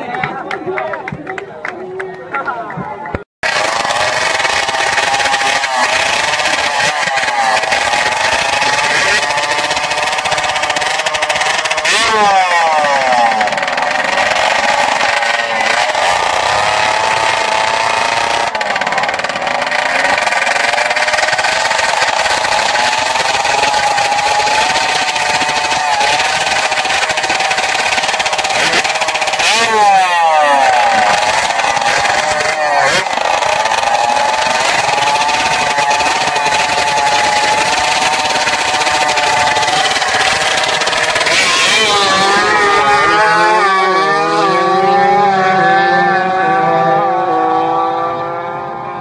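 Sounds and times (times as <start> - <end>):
motorcycle engines revving: 3.4 - 49.0
small motorcycle engines idling: 3.4 - 49.0.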